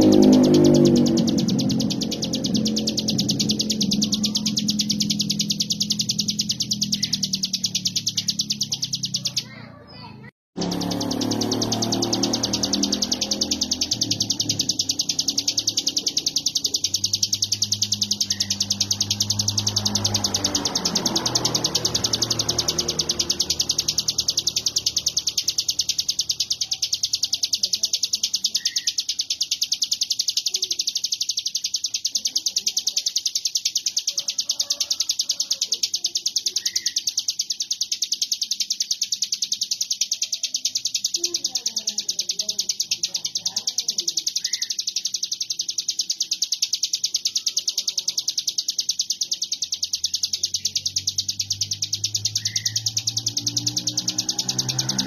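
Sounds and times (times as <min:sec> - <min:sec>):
bird singing rapid buzzing chatter: 0:00.0 - 0:55.0.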